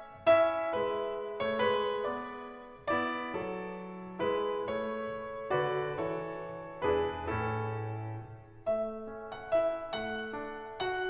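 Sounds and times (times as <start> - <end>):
slow piano piece: 0.0 - 11.0.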